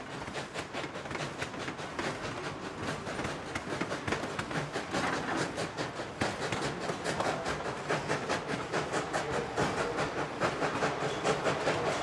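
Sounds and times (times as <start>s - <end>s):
steam hiss: 0.0s - 12.0s
train wheels clicking and rattling: 0.0s - 12.0s.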